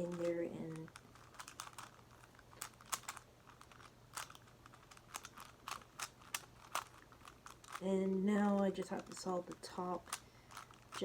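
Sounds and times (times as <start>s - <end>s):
plastic puzzle clicking and clacking: 0.0s - 7.8s, 8.5s - 11.0s.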